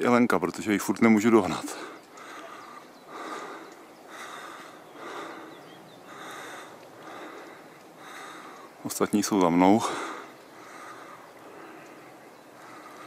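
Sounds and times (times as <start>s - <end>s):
hard rhythmic breathing: 1.3s - 8.8s, 9.7s - 13.0s.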